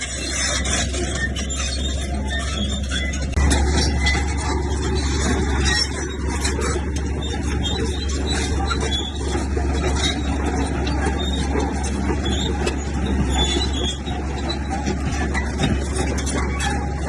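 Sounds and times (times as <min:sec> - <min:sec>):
diesel engine drone: 0:00.0 - 0:17.0
mechanical noise: 0:00.0 - 0:17.0.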